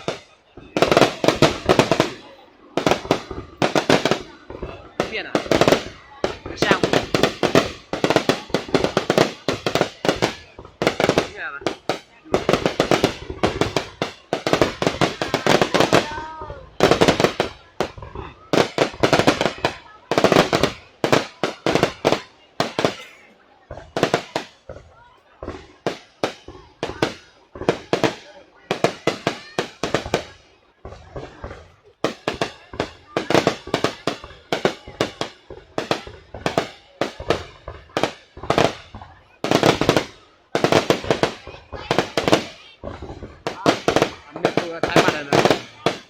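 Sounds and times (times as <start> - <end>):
fireworks bangs and cracks: 0.0 - 46.0.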